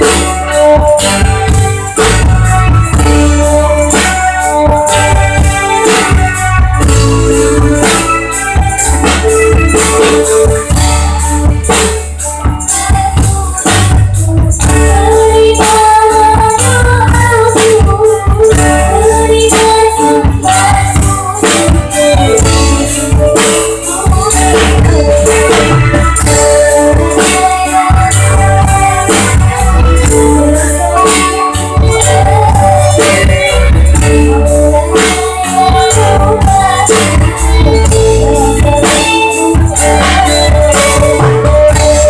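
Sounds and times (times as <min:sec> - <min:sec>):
band accompaniment: 0:00.0 - 0:42.0
bass: 0:00.0 - 0:42.0
drums: 0:00.0 - 0:42.0
girl singing: 0:00.0 - 0:42.0.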